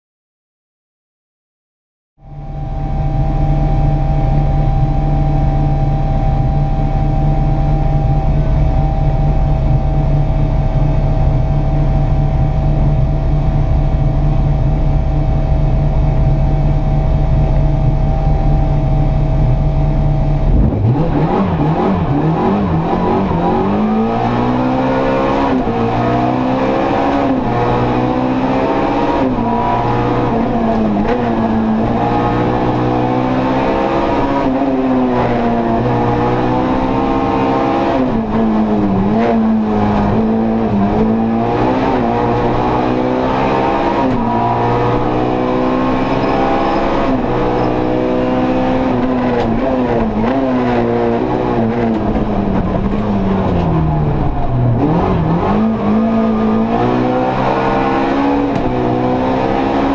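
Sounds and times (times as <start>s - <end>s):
rally car engine accelerating: 2.2s - 59.9s.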